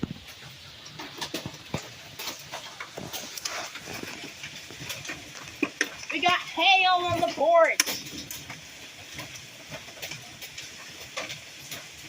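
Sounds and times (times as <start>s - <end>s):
hailstones pelting: 0.0s - 12.0s
rain hiss: 0.0s - 12.0s.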